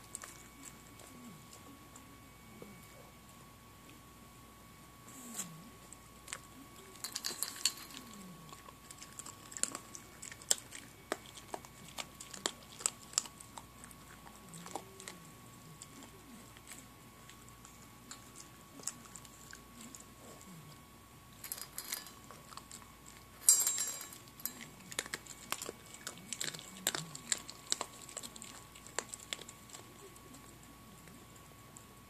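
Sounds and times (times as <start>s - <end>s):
puppy crunching kibble: 0.0s - 2.8s, 5.4s - 32.0s.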